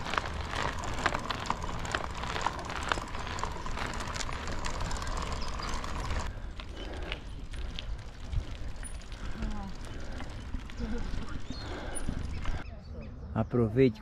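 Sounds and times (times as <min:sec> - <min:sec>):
footsteps on hard road: 0:00.0 - 0:12.6.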